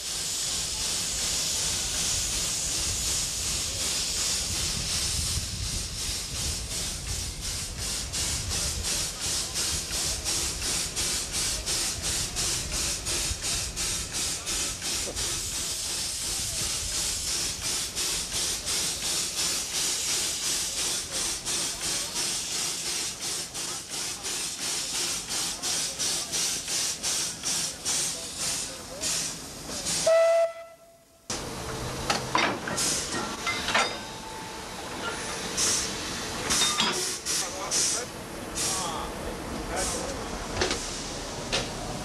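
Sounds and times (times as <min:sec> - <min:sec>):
steam hissing: 0:00.0 - 0:30.4, 0:31.3 - 0:42.0
steam locomotive exhaust chuffs: 0:00.0 - 0:42.0.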